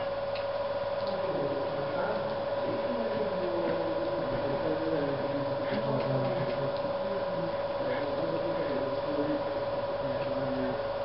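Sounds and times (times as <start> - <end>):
electrical hum: 0.0 - 11.0
faint low voices: 1.1 - 10.9.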